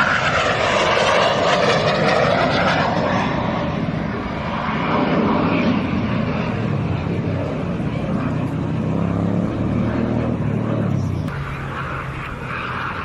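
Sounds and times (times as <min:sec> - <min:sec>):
aircraft engine flying past: 0:00.0 - 0:13.0.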